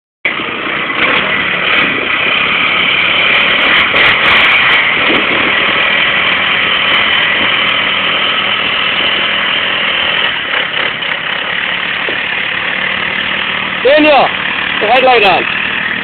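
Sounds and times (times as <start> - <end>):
quad bike engine running: 0.2 - 16.0.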